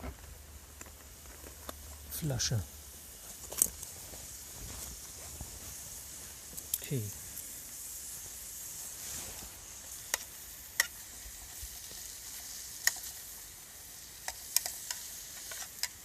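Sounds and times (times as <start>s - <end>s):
bacon sizzling in hot oil: 0.0s - 16.0s.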